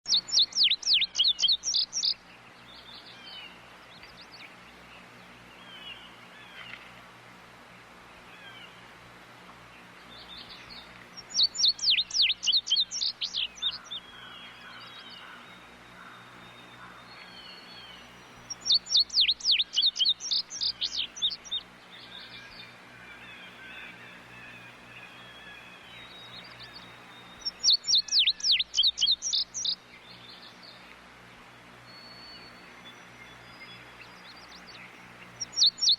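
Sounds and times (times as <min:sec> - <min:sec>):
faint bird calls: 0:00.0 - 0:07.0, 0:08.2 - 0:08.9, 0:10.0 - 0:31.0, 0:31.8 - 0:35.9.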